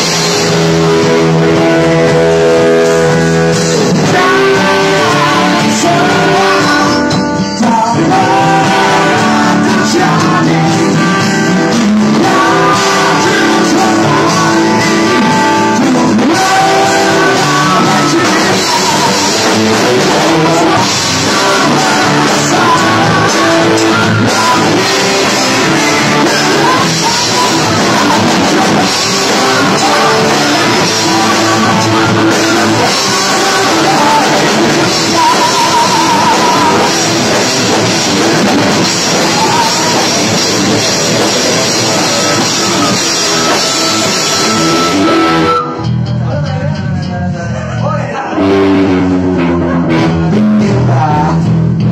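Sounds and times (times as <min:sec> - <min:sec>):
person singing lead vocal: 0:00.0 - 0:51.9
rock band playing: 0:00.0 - 0:51.9.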